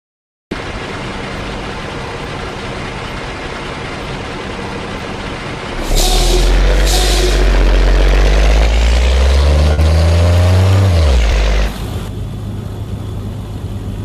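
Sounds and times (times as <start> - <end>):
truck diesel engine running: 0.6 - 12.2.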